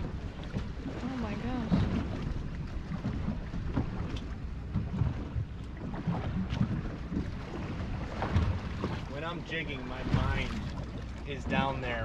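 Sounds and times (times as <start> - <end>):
low boat engine rumble: 0.0 - 12.0
wind buffeting microphone: 0.0 - 12.0.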